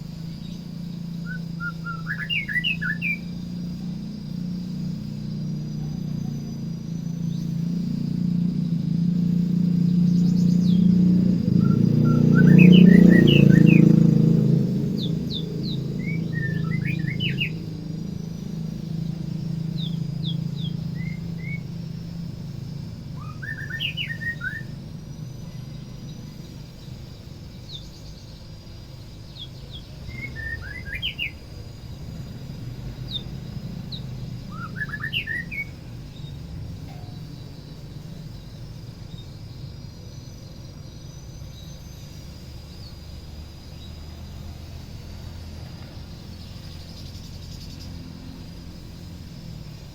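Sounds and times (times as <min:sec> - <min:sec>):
bird singing whistled notes: 0:00.0 - 0:45.1, 0:45.8 - 0:49.9.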